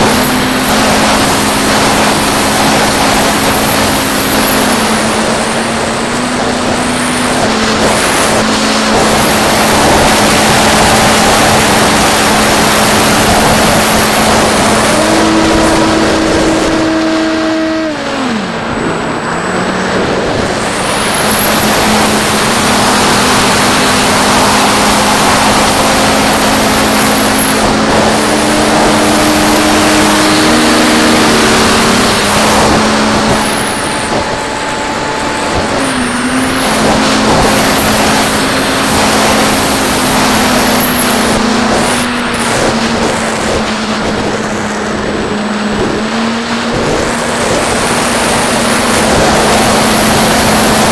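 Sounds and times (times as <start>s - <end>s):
electric motor and propeller: 0.0s - 50.9s
heavy wind rush: 0.0s - 50.9s.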